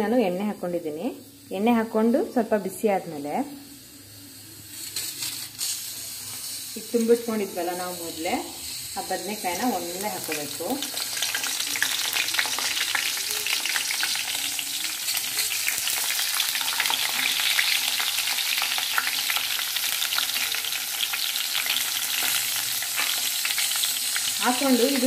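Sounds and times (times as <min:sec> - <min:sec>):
vegetables sizzling in hot oil: 0:00.0 - 0:25.0.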